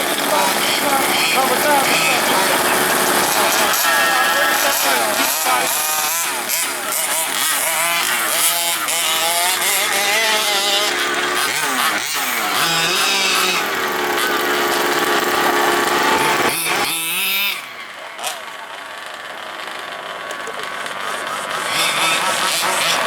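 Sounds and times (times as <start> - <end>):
small two-stroke engines revving: 0.0 - 23.0.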